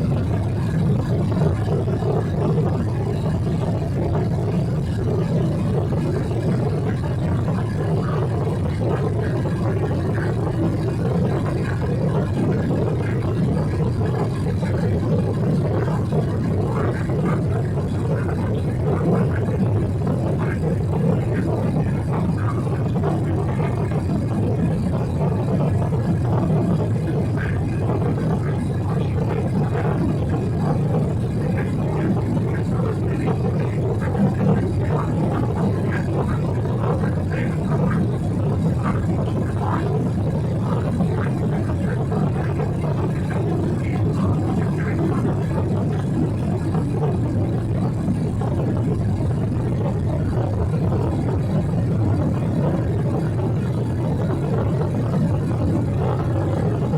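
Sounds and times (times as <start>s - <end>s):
jet engine rumble in cabin: 0.0s - 56.9s.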